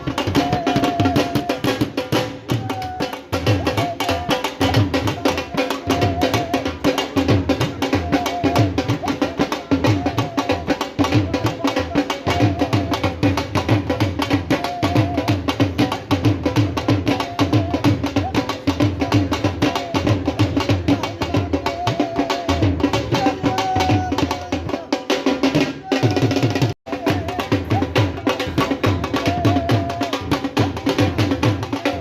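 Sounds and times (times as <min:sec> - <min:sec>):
barrel drum beaten fast: 0:00.0 - 0:32.0.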